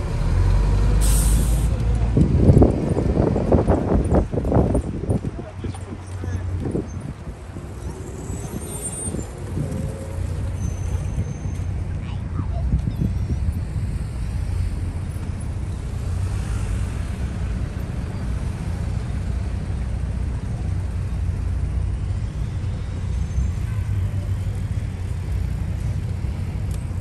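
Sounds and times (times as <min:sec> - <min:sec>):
bus driving in traffic: 0:00.0 - 0:27.0.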